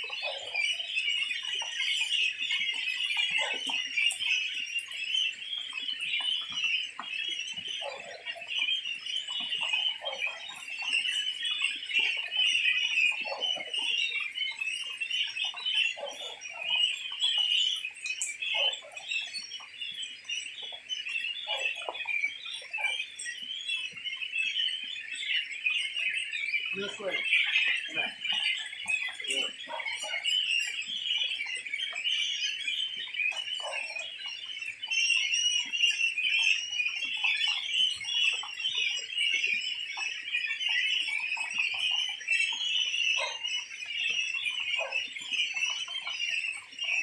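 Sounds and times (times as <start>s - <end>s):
goslings peeping: 0.0s - 47.0s.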